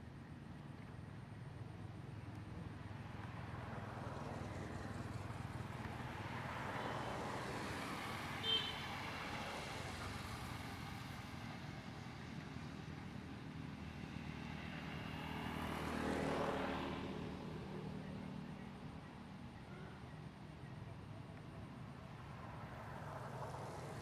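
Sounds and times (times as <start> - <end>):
passing road traffic: 0.0 - 24.0.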